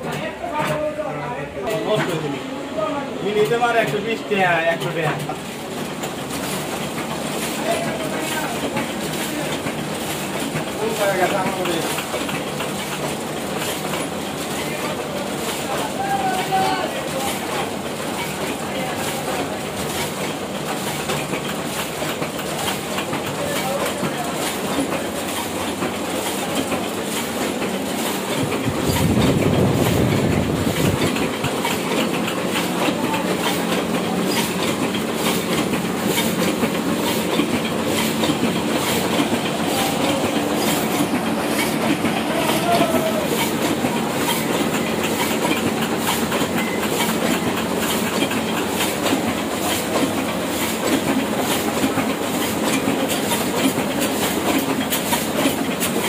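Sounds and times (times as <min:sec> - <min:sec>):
printing press clattering: 0:00.0 - 0:56.0.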